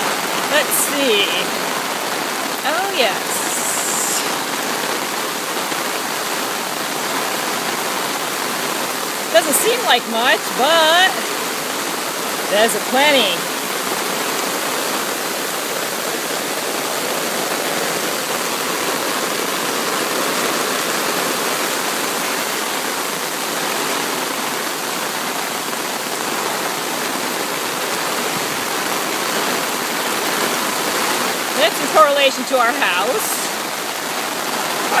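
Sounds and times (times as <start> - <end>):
falling rain: 0.0 - 35.0
water rushing through ditch: 0.0 - 35.0.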